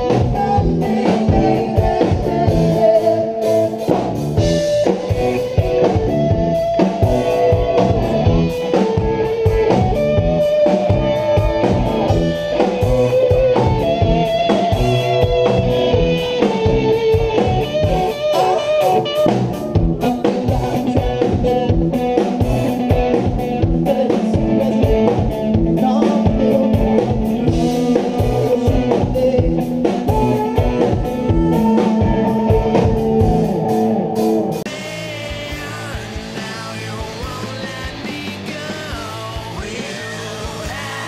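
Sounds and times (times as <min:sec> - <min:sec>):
rock band playing live: 0:00.0 - 0:41.0.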